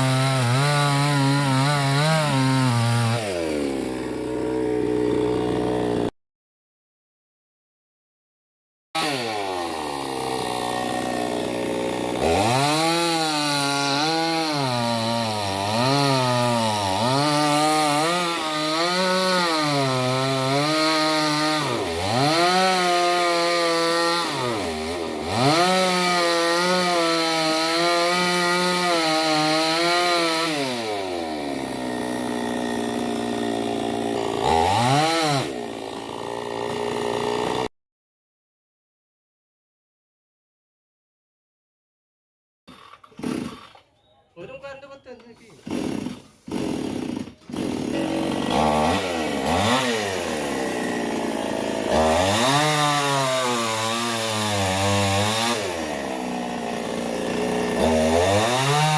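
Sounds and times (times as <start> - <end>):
chainsaw cutting wood: 0.0 - 6.1, 9.0 - 37.7, 42.7 - 44.0, 45.1 - 58.9.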